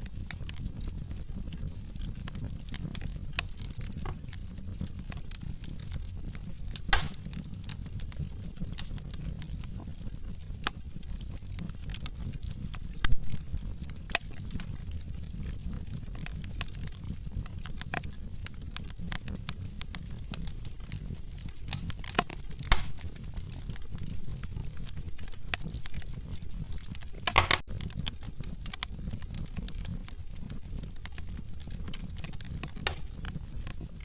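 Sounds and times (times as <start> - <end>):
flames rumbling: 0.0 - 34.0
logs crackling and popping: 0.0 - 34.0.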